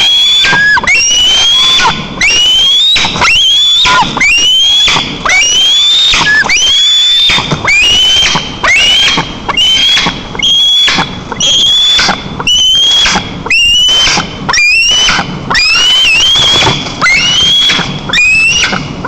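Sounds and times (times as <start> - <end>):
young eagle screaming: 0.0 - 18.9.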